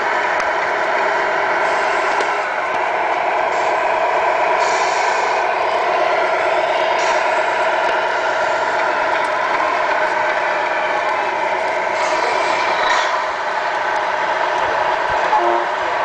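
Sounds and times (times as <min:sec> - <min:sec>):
model truck engine drone: 0:00.0 - 0:16.0.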